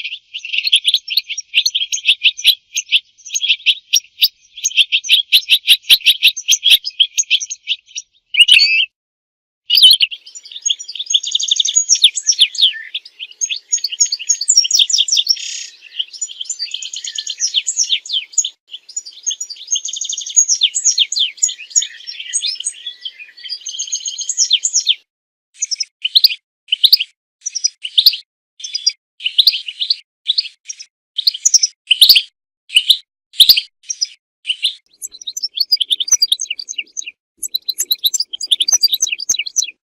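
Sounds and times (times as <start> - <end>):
goldfinch twittering song: 0.0 - 8.9, 9.7 - 25.0, 25.6 - 39.8.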